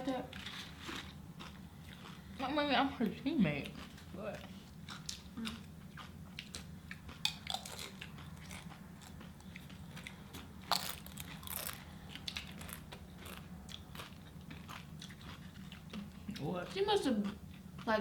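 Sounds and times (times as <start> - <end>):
person chewing crunchy food: 0.3 - 2.4, 3.6 - 17.9.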